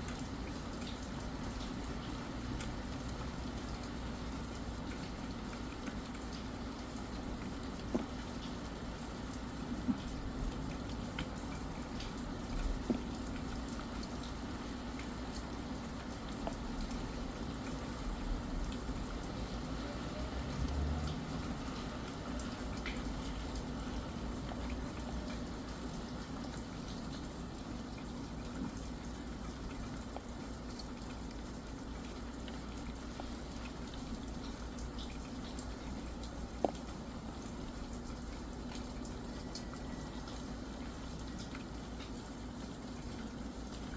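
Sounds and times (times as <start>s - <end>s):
raindrops ticking: 0.0s - 43.9s
steady rain hiss: 0.0s - 43.9s.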